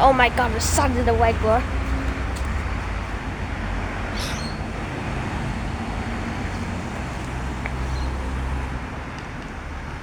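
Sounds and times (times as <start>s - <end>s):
outdoor rumble and hiss: 0.0s - 10.0s.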